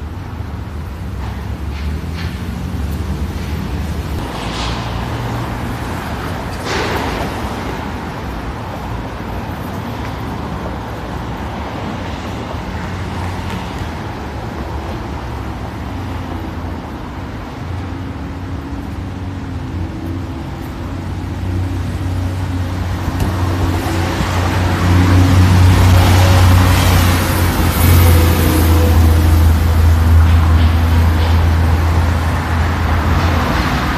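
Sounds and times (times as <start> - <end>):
street traffic: 0.0 - 33.9
vehicles passing close by: 0.0 - 33.9.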